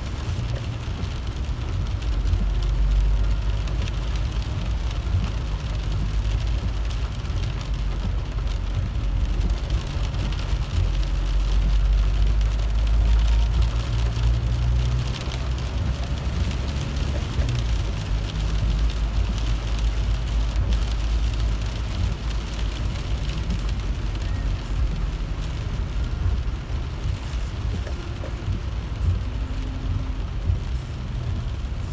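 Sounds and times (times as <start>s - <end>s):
car engine and tyres rumble: 0.0s - 31.9s
rain hitting windshield: 0.0s - 31.9s.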